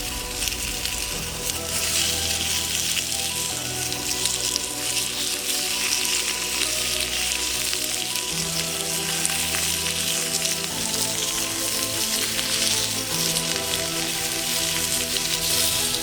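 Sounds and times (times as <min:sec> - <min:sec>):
food sizzling and crackling: 0:00.0 - 0:16.0
music with low held chords: 0:00.0 - 0:16.0.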